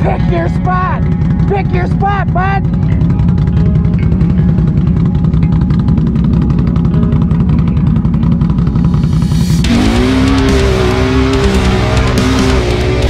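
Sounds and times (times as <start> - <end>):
atv engine running hard: 0.0 - 13.0
background music: 0.0 - 13.0
electric guitar riff: 0.0 - 13.0.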